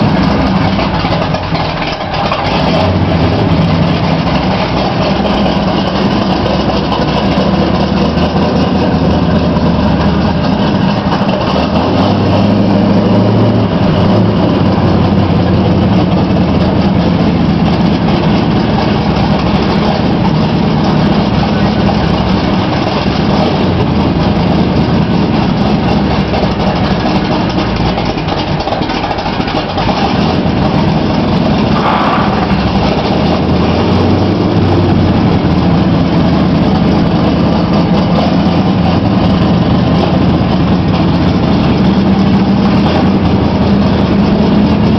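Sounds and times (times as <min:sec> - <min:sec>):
engine idling loudly: 0:00.0 - 0:44.9.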